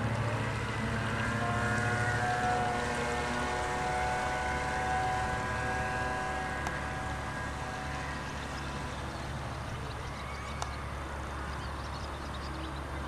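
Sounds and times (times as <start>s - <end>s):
model boat motor whine: 0.0s - 13.0s.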